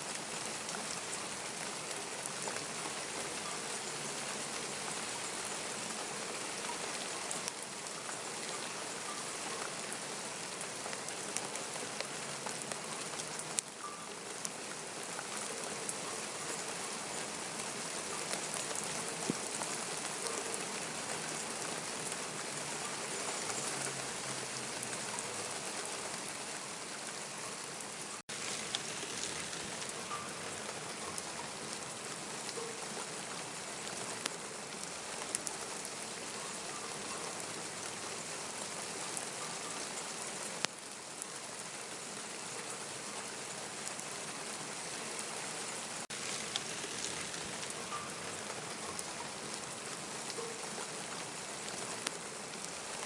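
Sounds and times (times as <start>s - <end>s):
steady rain falling: 0.0s - 53.0s
raindrops ticking: 0.1s - 44.8s, 46.0s - 53.0s.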